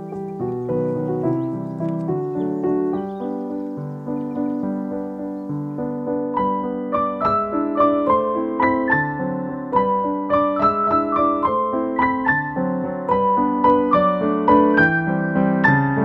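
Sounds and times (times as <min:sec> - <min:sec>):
keyboard melody over chords: 0:00.0 - 0:16.0.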